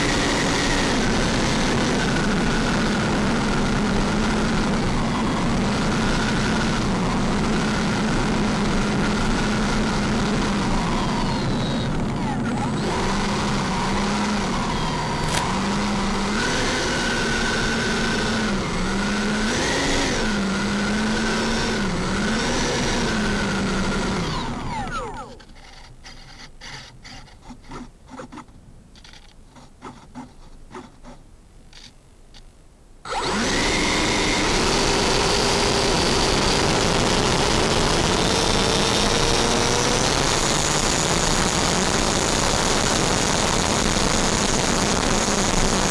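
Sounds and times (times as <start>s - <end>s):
electric ducted fans whining: 0.0s - 45.9s.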